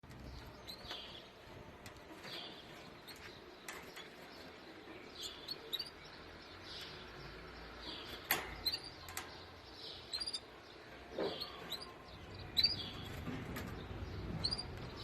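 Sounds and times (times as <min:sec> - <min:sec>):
canaries chirping: 0:00.0 - 0:15.0.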